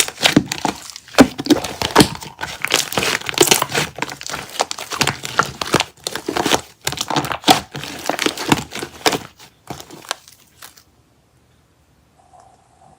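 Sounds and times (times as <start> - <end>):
slime crackling and popping: 0.0 - 10.8.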